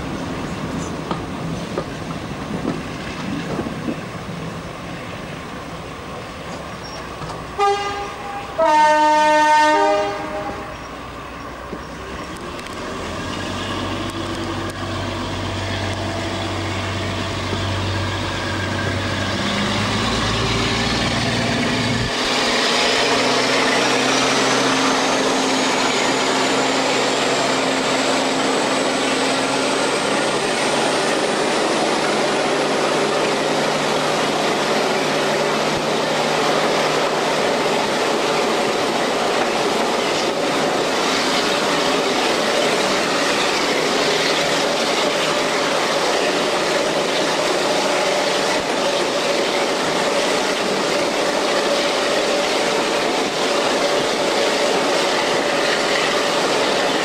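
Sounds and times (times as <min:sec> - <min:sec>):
train wheels running on rails: 0:00.0 - 0:57.0.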